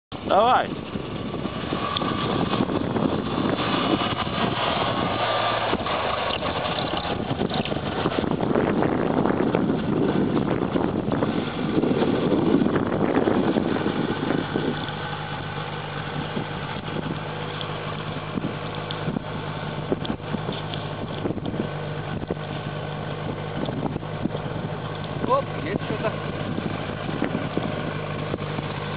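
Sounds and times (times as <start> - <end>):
boat engine idling: 0.1 - 28.9.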